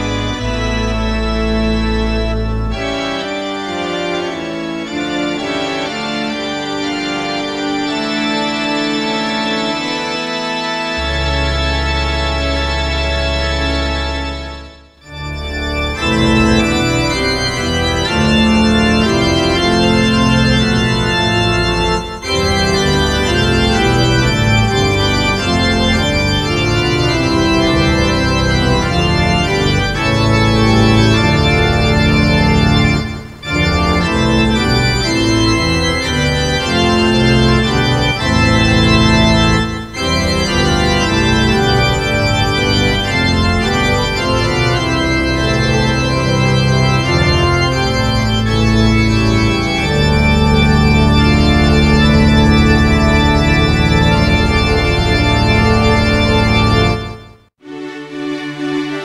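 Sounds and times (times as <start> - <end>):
organ playing full chords: 0.0 - 59.0.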